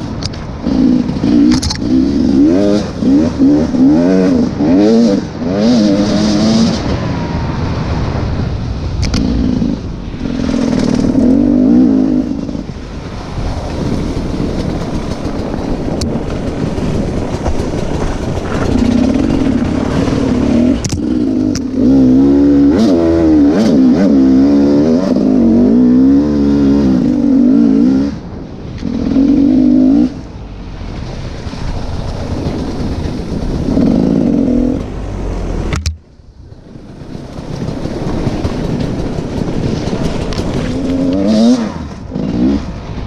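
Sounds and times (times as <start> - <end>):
motorcycle engine revving: 0.0 - 8.3, 8.9 - 30.8, 31.5 - 35.9, 37.0 - 43.0.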